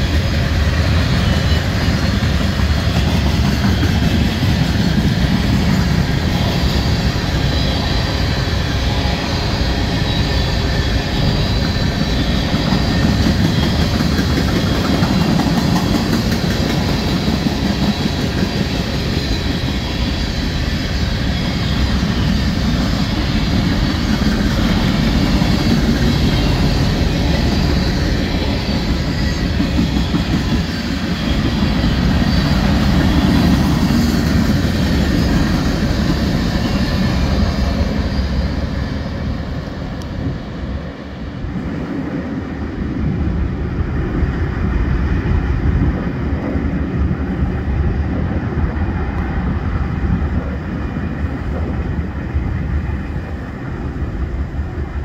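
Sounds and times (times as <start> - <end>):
freight train cars rolling past: 0.0 - 55.0
wind buffeting microphone: 0.0 - 55.0.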